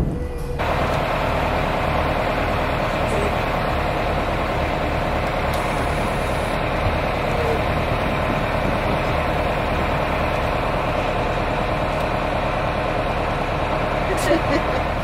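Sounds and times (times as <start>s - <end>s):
vehicle engine idling: 0.5s - 15.0s.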